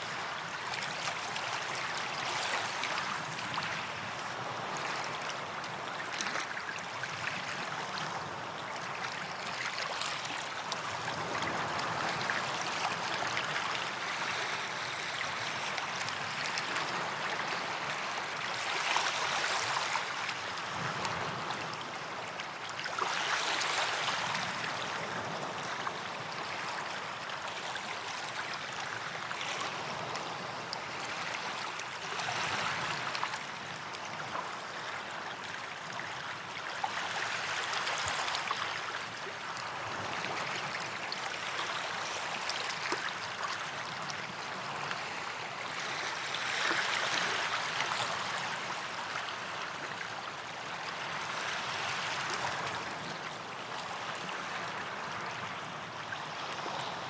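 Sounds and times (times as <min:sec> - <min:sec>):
waves washing onto sandy beach: 0:00.0 - 0:57.0.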